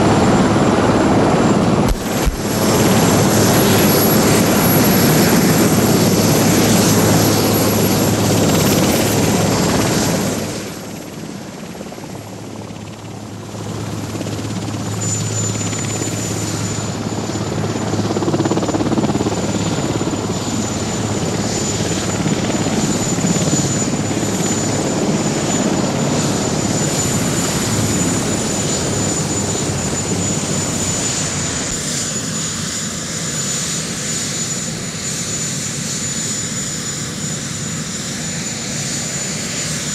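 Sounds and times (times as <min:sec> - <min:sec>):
helicopter turbine engines whining: 0:00.0 - 0:39.9.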